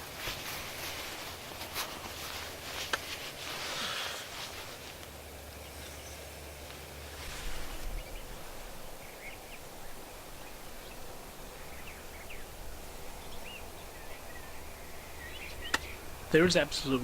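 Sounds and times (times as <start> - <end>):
open field outdoor noise: 0.0 - 17.0
small birds chirping: 0.0 - 17.0.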